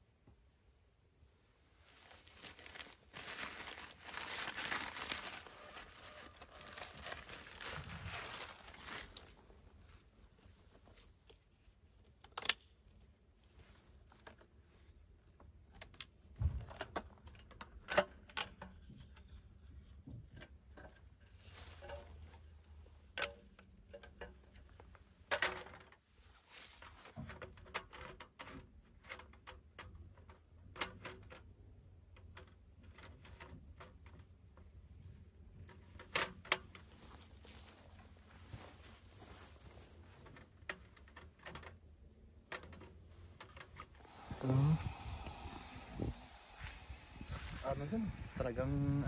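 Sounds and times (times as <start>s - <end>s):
rustling and crinkling: 1.6s - 49.0s.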